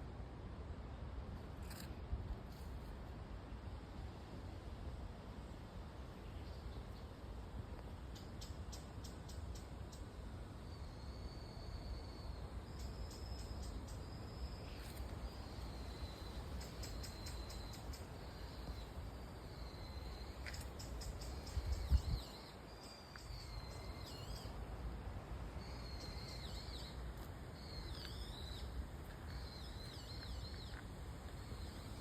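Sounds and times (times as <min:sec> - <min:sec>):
small songbirds chirping: 0:05.4 - 0:07.3, 0:08.0 - 0:32.0.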